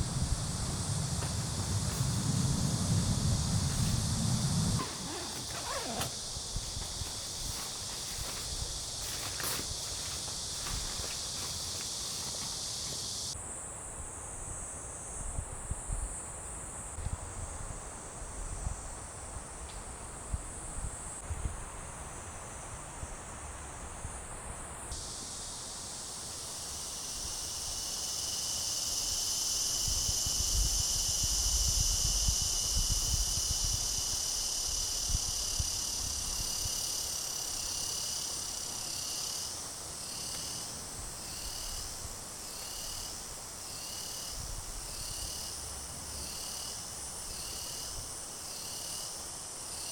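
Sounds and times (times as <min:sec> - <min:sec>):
insects chorus: 0:00.0 - 0:49.9.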